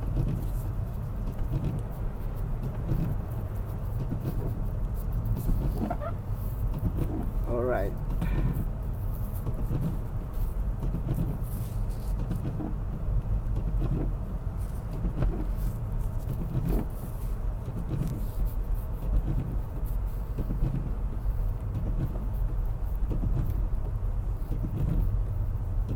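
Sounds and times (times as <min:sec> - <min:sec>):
tyres and engine rumble: 0:00.0 - 0:25.9.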